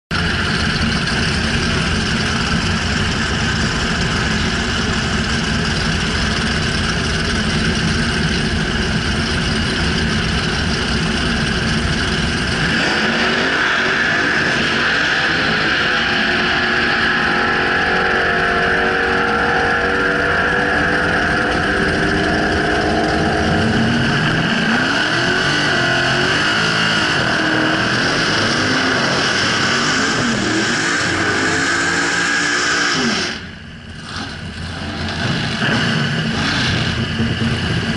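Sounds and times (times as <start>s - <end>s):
drag car engine rumbling and revving: 0.1s - 37.9s.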